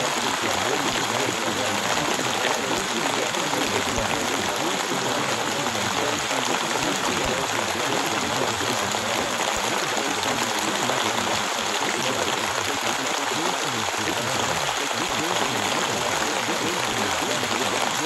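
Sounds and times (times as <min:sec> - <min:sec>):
rain hiss: 0:00.0 - 0:18.0.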